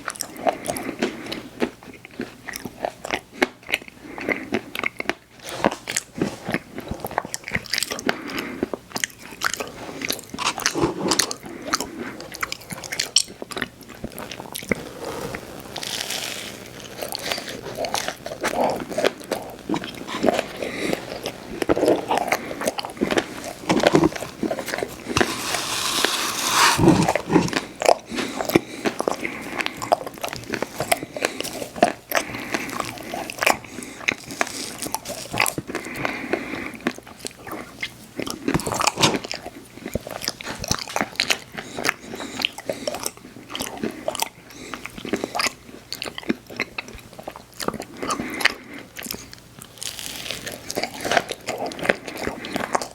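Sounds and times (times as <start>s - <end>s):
person chewing ice cream: 0.0s - 52.9s.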